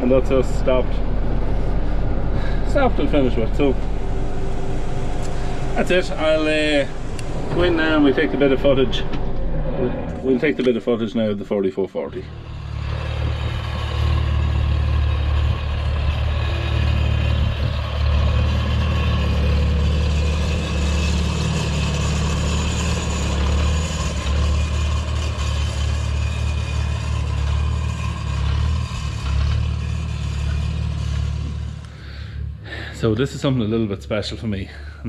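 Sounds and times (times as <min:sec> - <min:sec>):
tractor engine running: 0:00.0 - 0:34.4.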